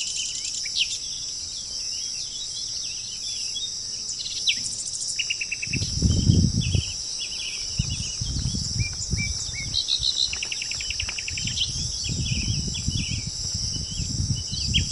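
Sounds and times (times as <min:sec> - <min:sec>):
fast rattling bird trill: 0:00.0 - 0:14.9
high drone of insects: 0:00.0 - 0:14.9
wild birds chirping: 0:00.0 - 0:14.9.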